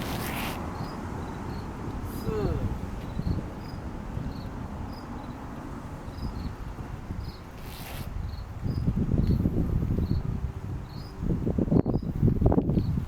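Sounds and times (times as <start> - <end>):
insects chirping: 0.0 - 9.4, 10.0 - 11.2.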